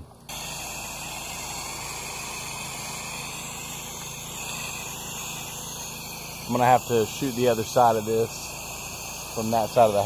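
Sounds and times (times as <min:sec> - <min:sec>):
gas engine humming: 0:00.0 - 0:10.0
pressure washer spray hissing: 0:00.3 - 0:10.0.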